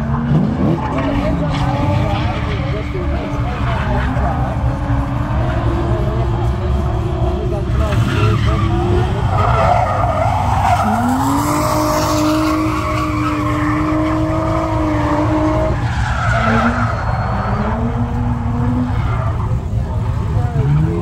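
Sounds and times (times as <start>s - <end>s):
car engine revving: 0.0s - 21.0s
tyres screeching: 0.8s - 21.0s.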